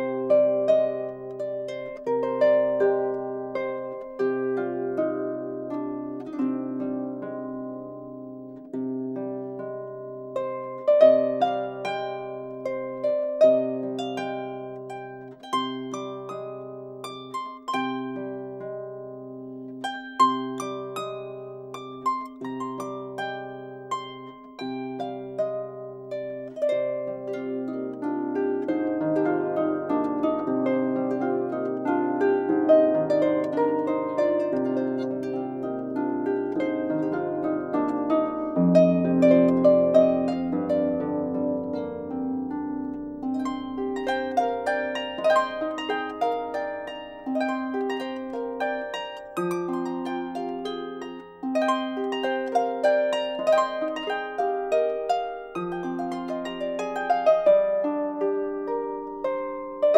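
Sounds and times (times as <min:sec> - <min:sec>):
plucked harp-like instrumental music: 0:00.0 - 0:59.9.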